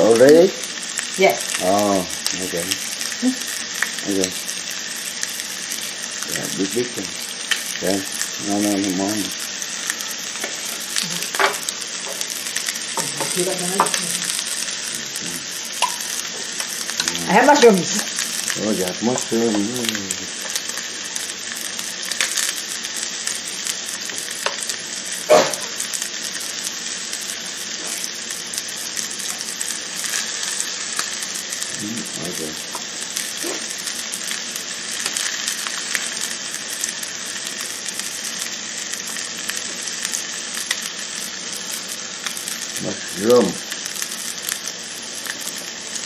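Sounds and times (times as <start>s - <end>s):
steak sizzling on a grill: 0.0s - 46.0s.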